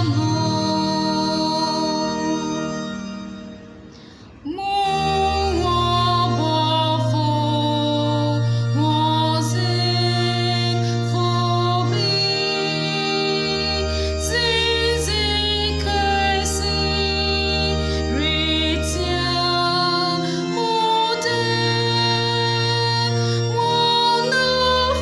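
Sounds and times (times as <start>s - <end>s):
woman singing: 0.0s - 2.6s, 4.4s - 25.0s
sustained chords and bass: 0.0s - 25.0s.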